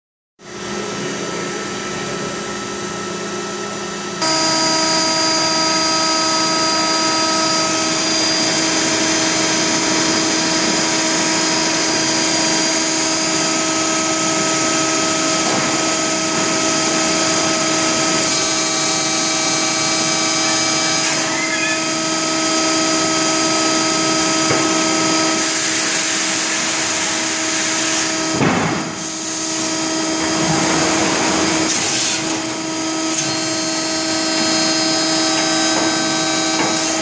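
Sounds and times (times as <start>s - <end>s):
hydraulic power unit whine: 0.4s - 37.0s.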